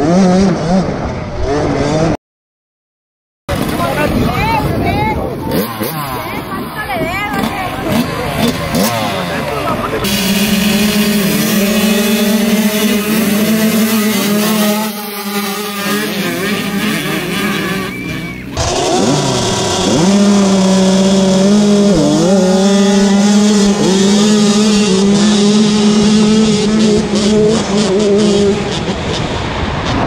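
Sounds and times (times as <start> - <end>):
dirt bike engines revving: 0.0 - 2.2, 3.5 - 30.0.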